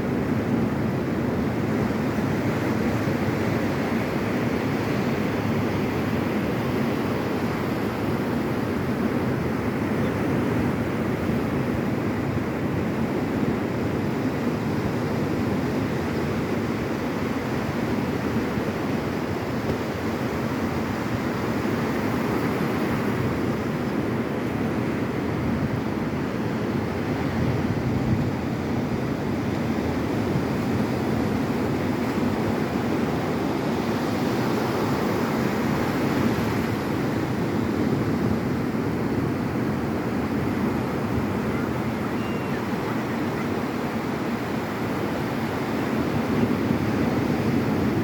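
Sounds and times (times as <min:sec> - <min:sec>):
ocean surf on beach: 0:00.0 - 0:48.0
wind on microphone: 0:00.0 - 0:48.0.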